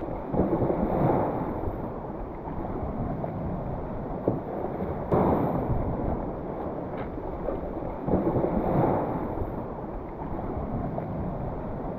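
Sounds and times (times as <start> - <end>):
waves washing against rocks: 0.0 - 11.9
wind rumbling on microphone: 0.0 - 11.9.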